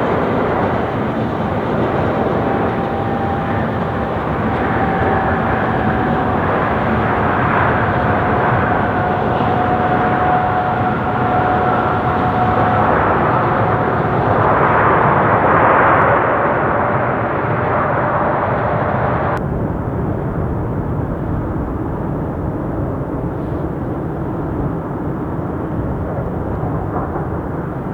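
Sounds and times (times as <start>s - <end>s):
jet engine rush and fan whine: 0.0s - 27.9s.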